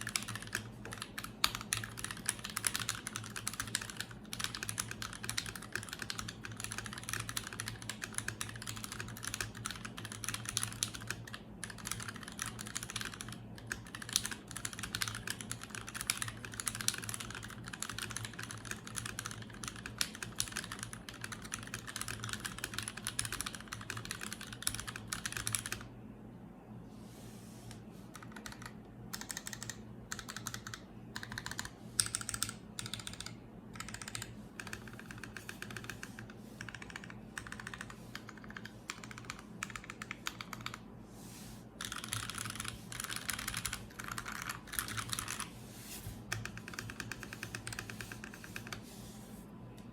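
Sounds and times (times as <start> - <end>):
mechanical keyboard typing: 0.0 - 25.9, 28.1 - 40.8, 41.8 - 45.5, 46.3 - 48.8.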